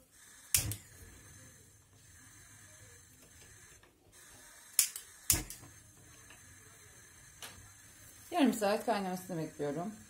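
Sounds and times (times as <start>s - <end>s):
faint steady gas noise: 0.0s - 10.0s.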